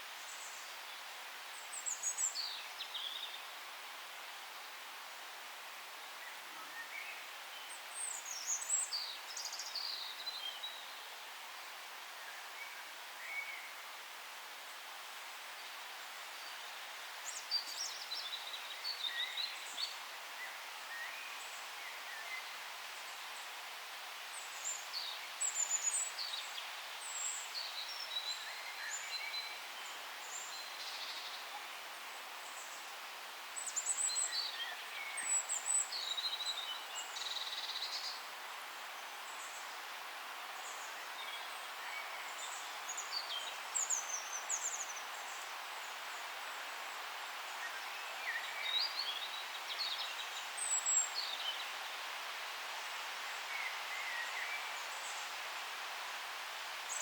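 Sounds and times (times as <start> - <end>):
steady forest hiss: 0.0 - 57.0.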